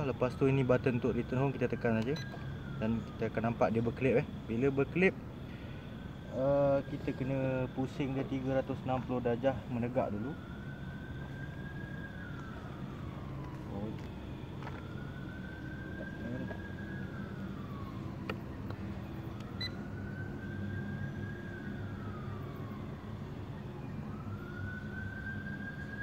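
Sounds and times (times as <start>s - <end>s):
low steady hum: 0.0s - 26.0s
siren wailing: 0.0s - 26.0s.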